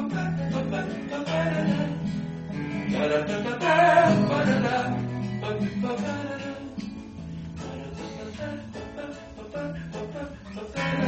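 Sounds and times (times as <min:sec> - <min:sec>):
classical guitar strumming: 0:00.0 - 0:11.0
man singing: 0:00.0 - 0:11.0.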